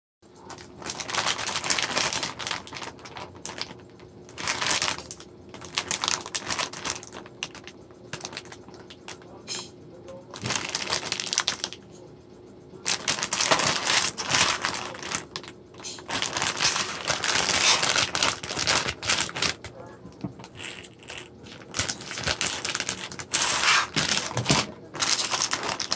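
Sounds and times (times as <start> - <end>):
plastic candy bag crinkling: 0.4 - 9.4, 10.2 - 11.8, 12.8 - 25.9.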